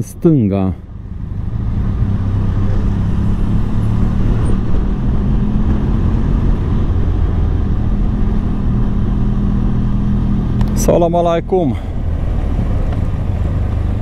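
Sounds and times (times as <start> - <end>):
motorcycle engine drone: 0.0 - 14.0
road and wind noise: 0.0 - 14.0.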